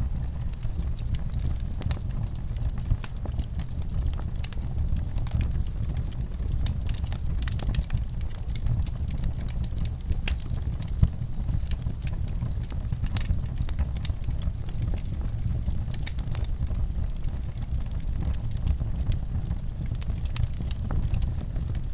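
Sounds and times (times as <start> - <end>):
fire crackling and popping: 0.0 - 21.9.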